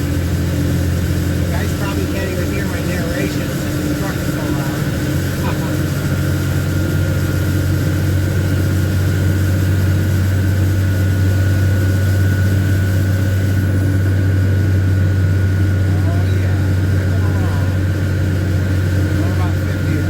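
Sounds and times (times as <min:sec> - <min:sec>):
diesel truck engine droning: 0:00.0 - 0:20.0
steady high whine: 0:00.0 - 0:20.0.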